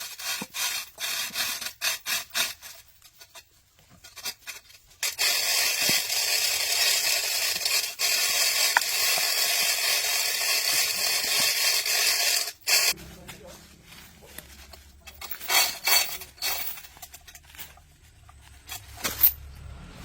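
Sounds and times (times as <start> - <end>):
hand tool scraping: 0.0 - 19.4.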